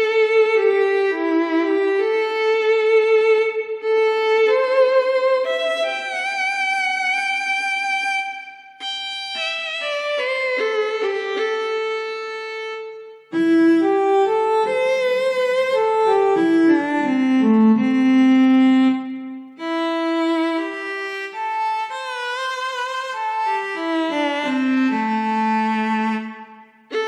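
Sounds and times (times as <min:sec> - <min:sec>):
keyboard violin melody: 0:00.0 - 0:27.0.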